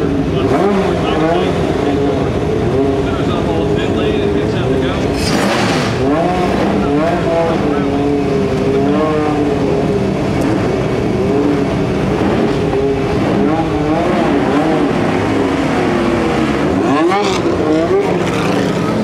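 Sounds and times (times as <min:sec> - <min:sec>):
racing car engines idling and blipping: 0:00.0 - 0:19.0.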